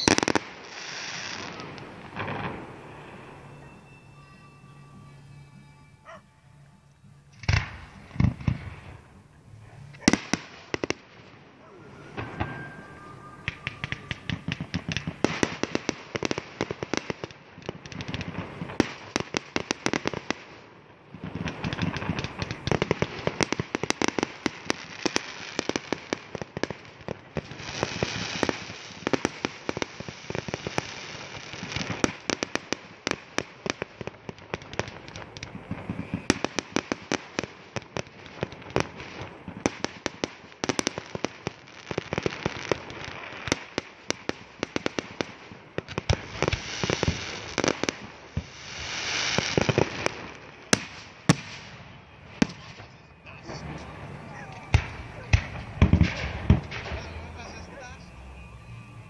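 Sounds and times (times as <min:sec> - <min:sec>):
fireworks bursts and bangs: 0:00.0 - 0:04.3, 0:07.3 - 0:09.2, 0:09.8 - 0:58.0.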